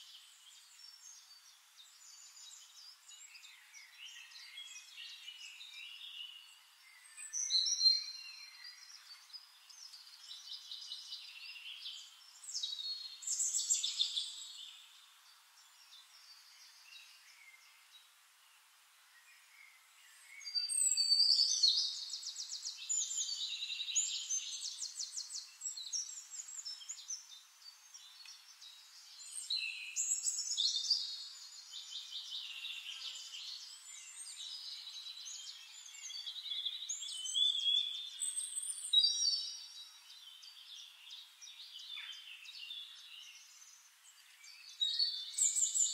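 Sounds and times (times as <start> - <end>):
birds singing together: 0.0 - 45.9.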